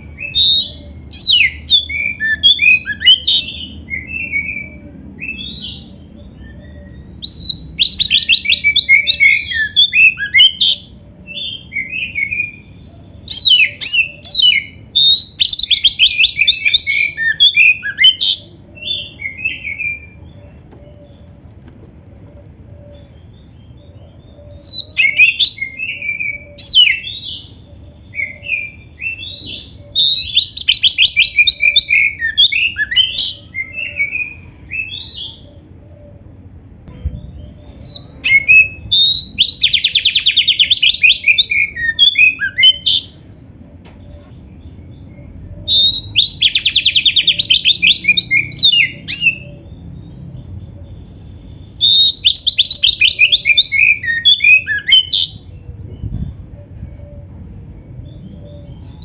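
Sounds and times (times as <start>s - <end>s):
bird singing whistles and trills: 0.0s - 21.3s, 22.7s - 36.3s, 36.9s - 43.2s, 44.0s - 59.0s.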